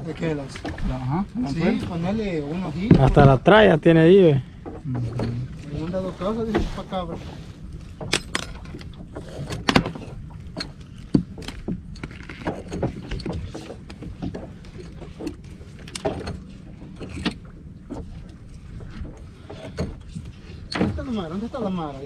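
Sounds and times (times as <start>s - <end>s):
boat low rumble: 0.0s - 22.0s.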